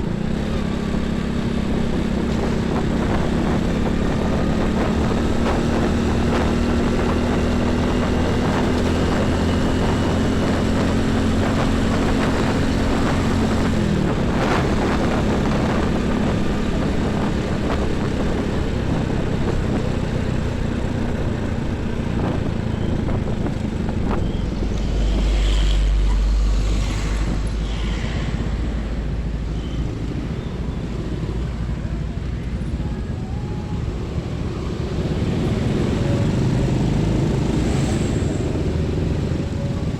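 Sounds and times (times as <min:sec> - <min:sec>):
diesel trucks and buses passing: 0:00.0 - 0:39.9
low rumble of close pass: 0:00.0 - 0:39.9.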